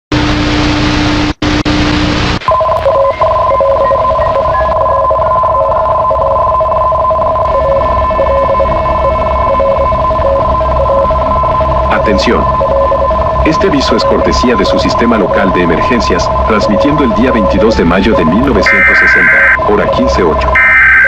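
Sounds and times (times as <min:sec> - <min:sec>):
loud static with hum: 0:00.1 - 0:21.0
two-tone alert tone: 0:02.5 - 0:21.0.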